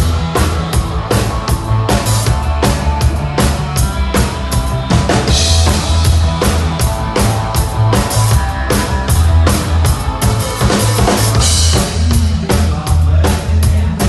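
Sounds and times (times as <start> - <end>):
drum kit beat: 0.0 - 14.0
heavy bass: 0.0 - 14.0
instrumental rock band: 0.0 - 14.0.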